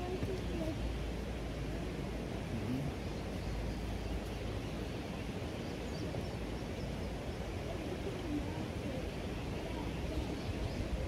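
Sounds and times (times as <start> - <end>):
river flowing: 0.0 - 11.0
wind rumbling on microphone: 0.0 - 11.0.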